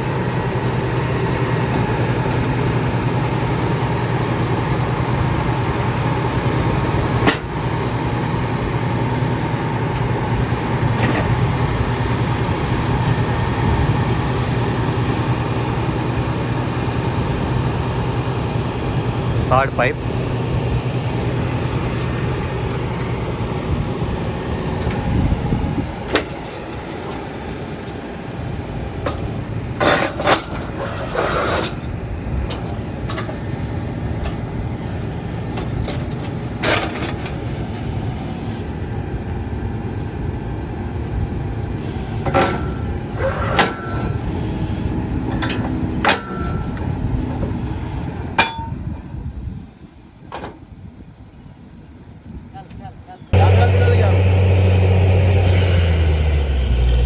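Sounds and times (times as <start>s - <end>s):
drilling rig running: 0.0s - 57.0s.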